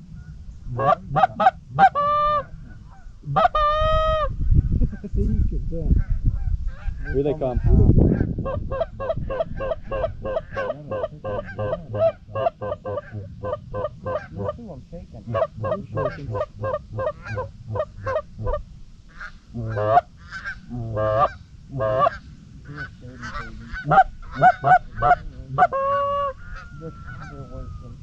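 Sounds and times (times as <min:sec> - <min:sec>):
goose honking and clucking: 0:00.0 - 0:04.3, 0:06.3 - 0:14.6, 0:15.3 - 0:28.0.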